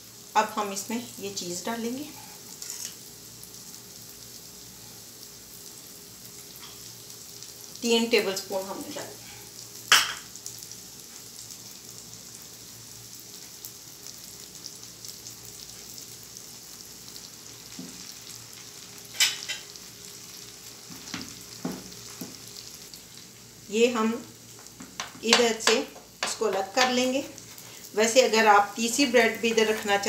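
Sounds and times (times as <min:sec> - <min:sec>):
omelette sizzling in a pan: 0:00.0 - 0:30.0.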